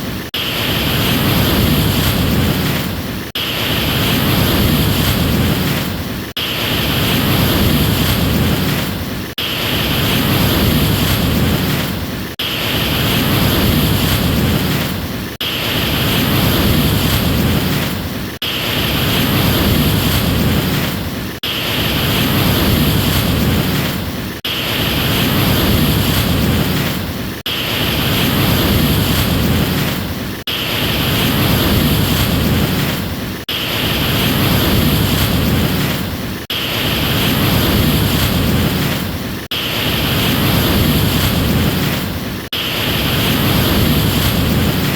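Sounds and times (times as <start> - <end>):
ocean surf: 0.0 - 44.9.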